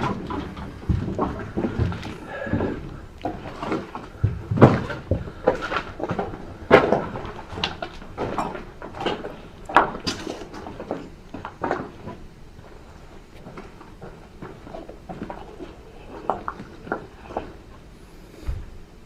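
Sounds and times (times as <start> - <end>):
footsteps crunching over debris: 0.0 - 17.9.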